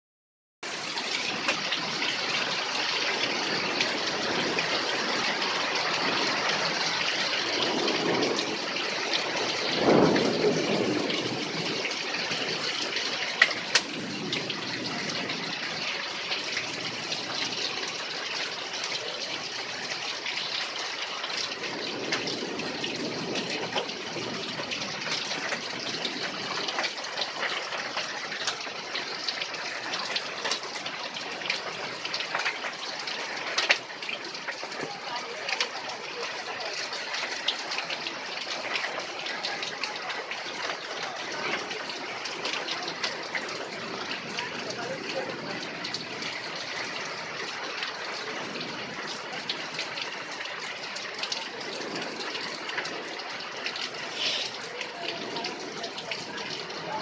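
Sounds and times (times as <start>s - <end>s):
heavy rain pouring: 0.6s - 57.0s
runoff gushing off a roof: 0.6s - 57.0s.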